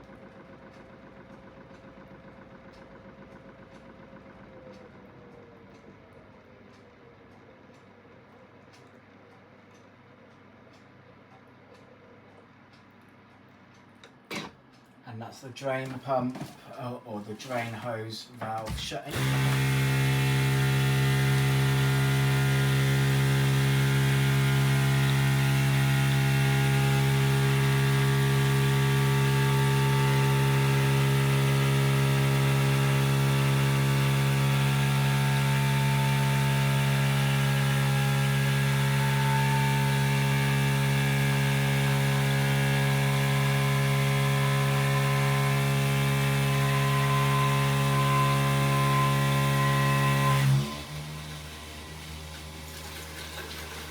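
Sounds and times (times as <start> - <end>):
washing machine motor humming: 0.0 - 14.7, 15.6 - 53.9.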